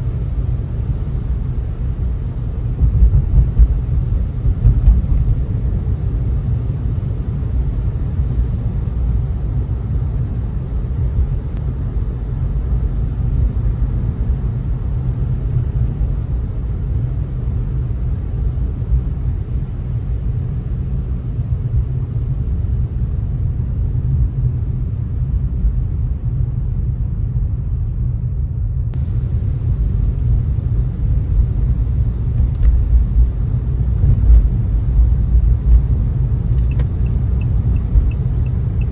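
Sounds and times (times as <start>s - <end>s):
road and tyre noise: 0.0s - 38.9s.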